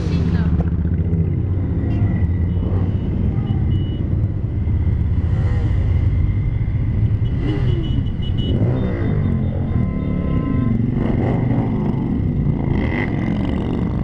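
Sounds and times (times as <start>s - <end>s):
motorcycles rumbling past: 0.0s - 3.7s, 4.3s - 14.0s.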